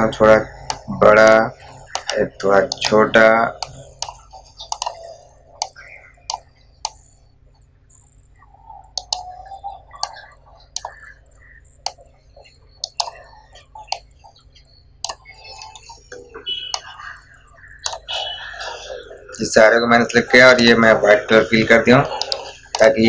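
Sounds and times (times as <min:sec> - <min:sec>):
computer mouse clicking: 0:00.0 - 0:18.1, 0:22.0 - 0:23.0
faint low hum: 0:00.0 - 0:23.0.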